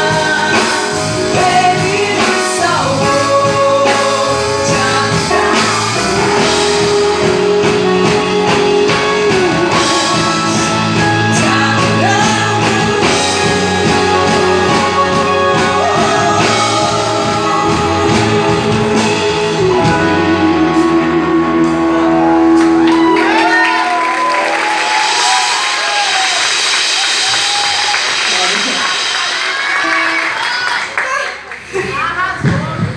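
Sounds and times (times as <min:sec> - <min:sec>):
gospel singing with band: 0:00.0 - 0:30.2.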